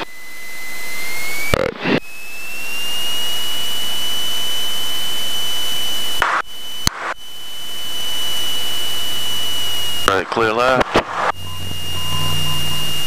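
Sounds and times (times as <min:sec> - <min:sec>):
propeller plane engine whine: 0:00.0 - 0:10.1, 0:11.0 - 0:13.0.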